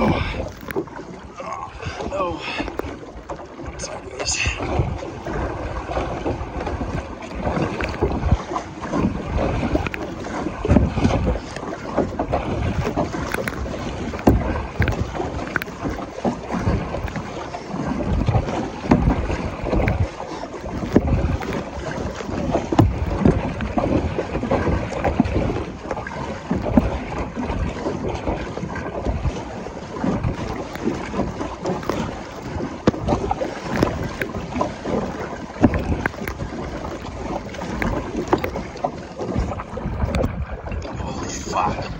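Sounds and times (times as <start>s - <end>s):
water slapping against kayak hull: 0.0s - 41.9s
waves thumping boat: 0.0s - 41.9s
wind buffeting microphone: 0.0s - 41.9s.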